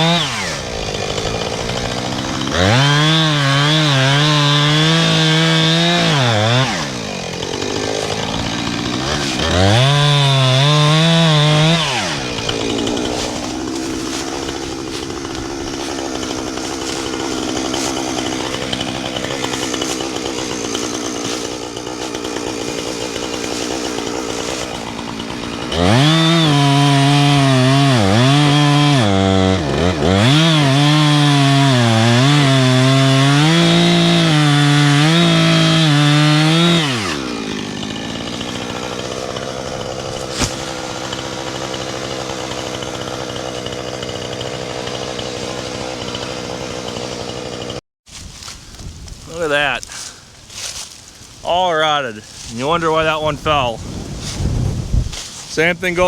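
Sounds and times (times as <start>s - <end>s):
chainsaw revving and idling: 0.0s - 48.5s, 49.3s - 54.4s.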